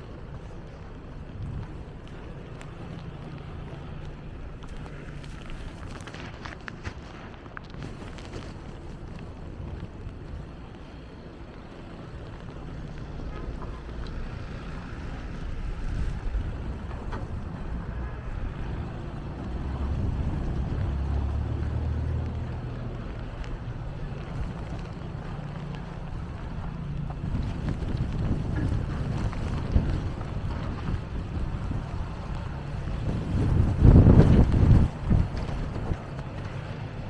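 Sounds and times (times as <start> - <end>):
street traffic passing: 0.0 - 37.0
wind buffeting microphone: 0.0 - 37.0.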